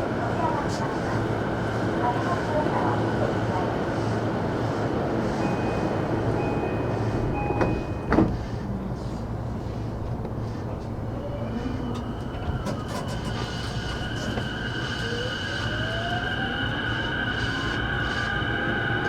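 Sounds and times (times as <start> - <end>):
train cabin low rumble: 0.0 - 19.0.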